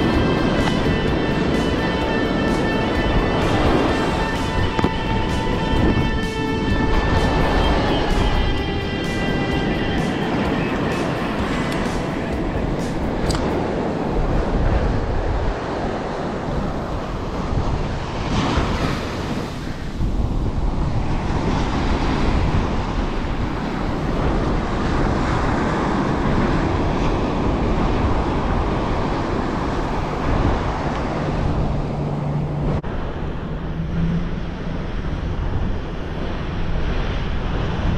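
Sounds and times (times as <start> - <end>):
ocean surf breaking: 0.0 - 37.9
wind buffeting microphone: 0.0 - 37.9.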